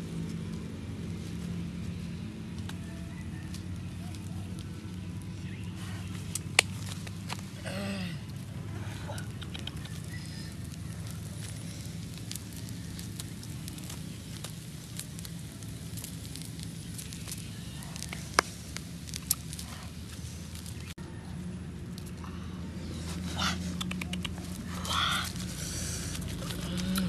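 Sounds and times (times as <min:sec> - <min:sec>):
charcoal fire crackling: 0:00.0 - 0:27.0
steady low hum: 0:00.0 - 0:27.0.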